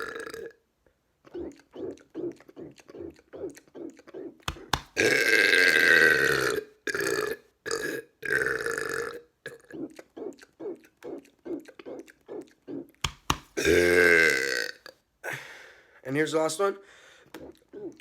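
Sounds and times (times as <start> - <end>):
man burping: 0.0 - 0.6, 1.3 - 15.5.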